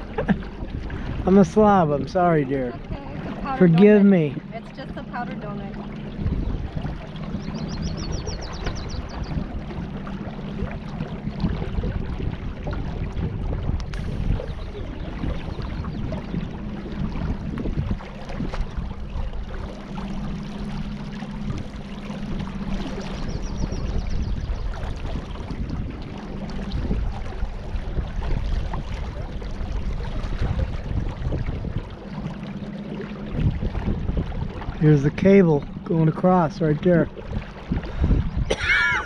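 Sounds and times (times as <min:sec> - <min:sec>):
low hum: 0:00.0 - 0:39.0
water lapping against boat hull: 0:00.0 - 0:39.0
wind buffeting microphone: 0:00.0 - 0:39.0.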